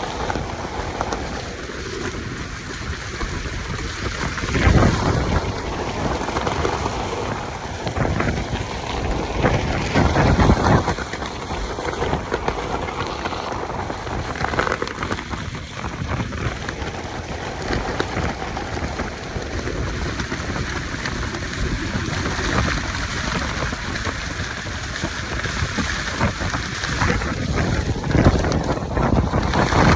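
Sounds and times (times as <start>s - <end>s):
gusting wind and heavy rain: 0.0s - 29.9s
wind buffeting microphone: 0.0s - 29.9s.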